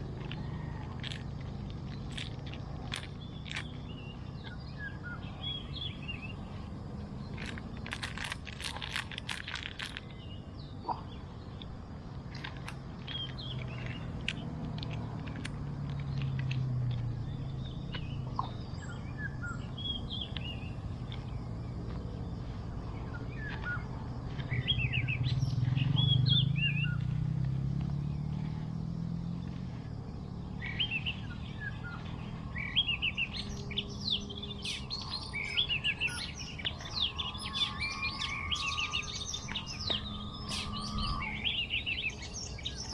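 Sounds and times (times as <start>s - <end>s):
birds chirping: 0.0s - 42.9s
low rumble: 0.0s - 42.9s.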